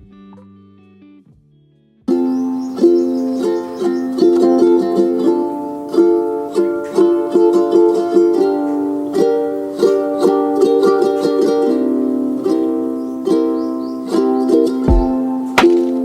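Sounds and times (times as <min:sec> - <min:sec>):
bright plucked-string tune: 0:02.1 - 0:16.0
soft sustained tune: 0:02.1 - 0:16.0.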